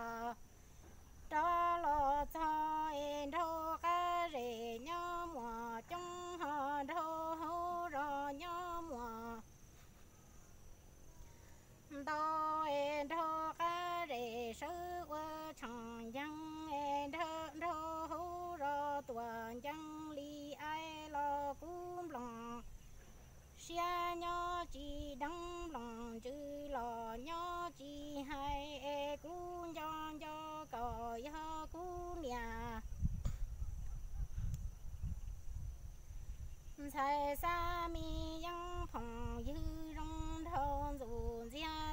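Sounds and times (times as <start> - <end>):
woman singing unaccompanied: 0.0 - 0.5, 1.1 - 9.6, 11.7 - 33.0, 36.6 - 41.9.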